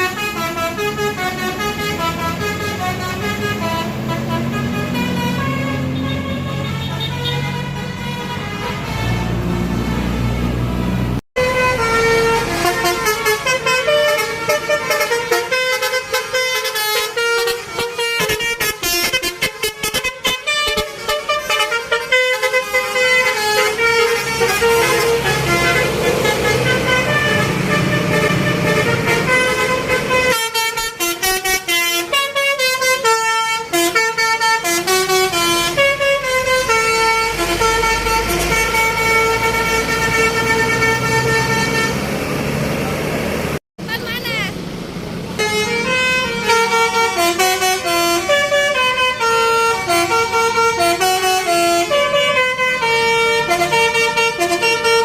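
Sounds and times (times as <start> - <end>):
multi-tone musical bus horn: 0.0 - 42.6, 45.3 - 55.0.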